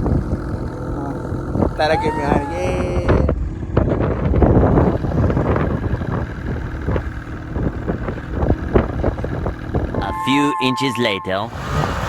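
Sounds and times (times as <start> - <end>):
wind buffeting microphone: 0.0 - 10.1
snowmobile engine running: 0.0 - 12.0.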